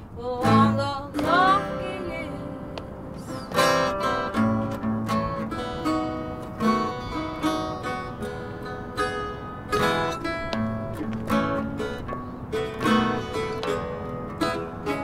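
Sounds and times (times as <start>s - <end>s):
strummed acoustic guitar chords: 0.2s - 15.0s.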